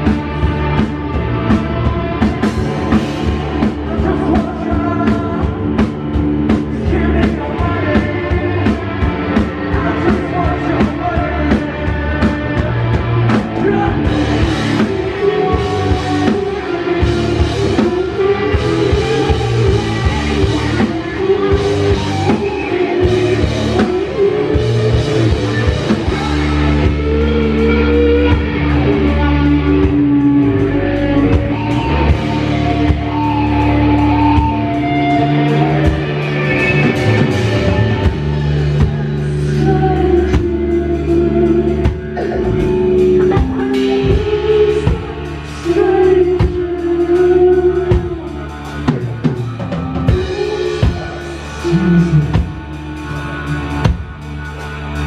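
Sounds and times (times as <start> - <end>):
bass guitar: 0.0 - 55.0
drum kit: 0.0 - 55.0
electric guitar: 0.0 - 55.0
person singing: 0.0 - 55.0.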